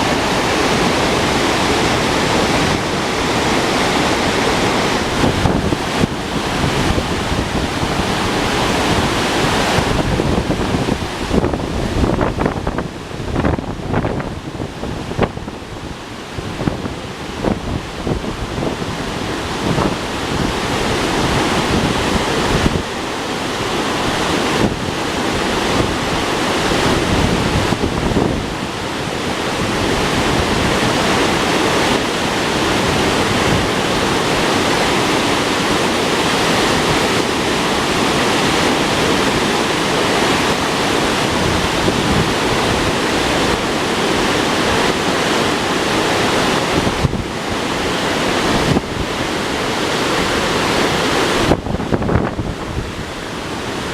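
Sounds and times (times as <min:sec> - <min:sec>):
river rushing: 0:00.0 - 0:53.9
wind buffeting microphone: 0:00.0 - 0:53.9.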